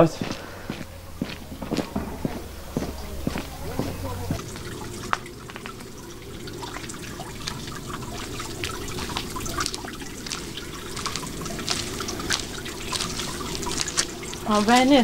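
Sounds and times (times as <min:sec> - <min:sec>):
fountain water trickling: 0:00.0 - 0:15.0.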